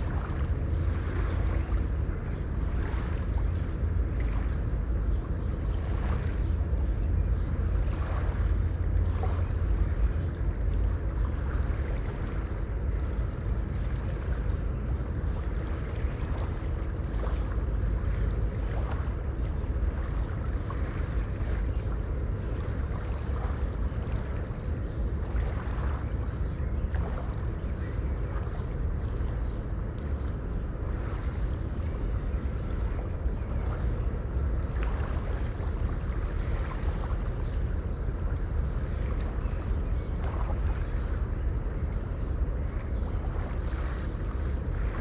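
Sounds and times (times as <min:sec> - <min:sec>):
small water splashes: 0:00.0 - 0:45.0.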